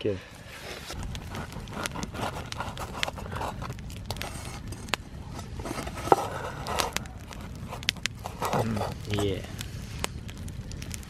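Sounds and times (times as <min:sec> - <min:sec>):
sharp crackles: 0:00.3 - 0:11.0
low rumble: 0:00.4 - 0:11.0.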